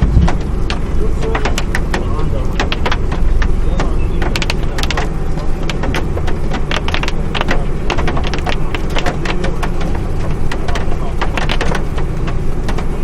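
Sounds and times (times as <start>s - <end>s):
low rumble: 0.0s - 13.0s
rain tapping on vehicle: 0.0s - 13.0s.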